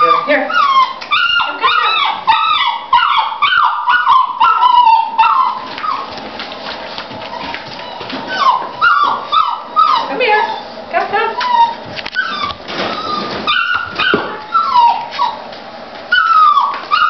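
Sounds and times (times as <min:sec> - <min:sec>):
puppies whimpering and yelping: 0:00.0 - 0:17.0.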